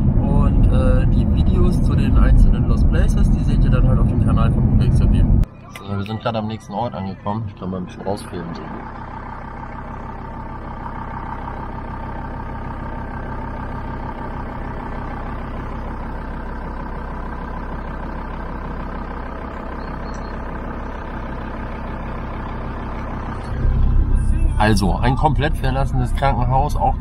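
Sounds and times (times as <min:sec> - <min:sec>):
van engine idling: 0:00.0 - 0:27.0.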